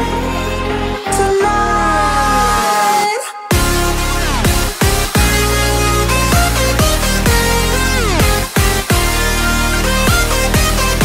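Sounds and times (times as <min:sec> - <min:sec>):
electronic music with bass beat: 0:00.0 - 0:11.0.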